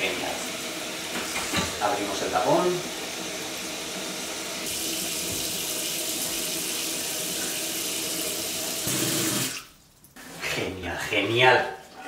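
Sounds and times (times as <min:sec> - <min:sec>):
tap water running into basin: 0:00.0 - 0:10.7.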